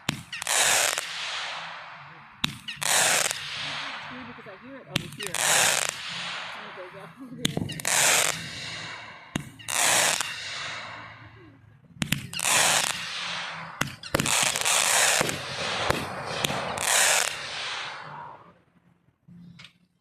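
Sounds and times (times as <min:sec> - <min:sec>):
fireworks hiss and crackle: 0:00.0 - 0:11.4, 0:12.0 - 0:18.5
fireworks bangs: 0:00.0 - 0:18.9.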